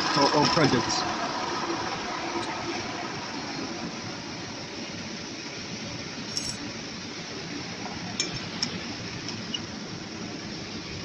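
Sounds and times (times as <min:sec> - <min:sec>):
factory machinery hum: 0:00.0 - 0:11.0.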